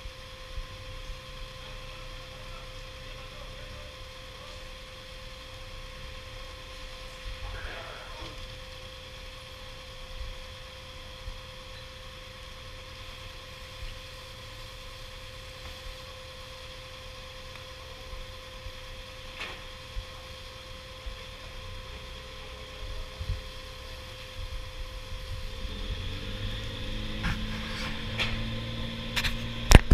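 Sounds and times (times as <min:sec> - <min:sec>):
boat engine humming: 0:00.0 - 0:29.9.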